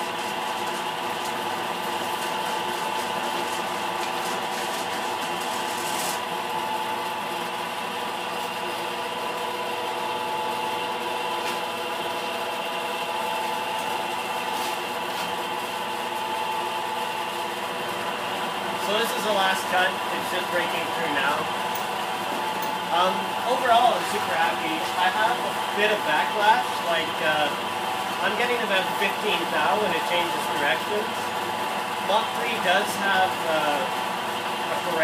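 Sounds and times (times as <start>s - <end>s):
milling machine cutting metal: 0.0s - 35.0s.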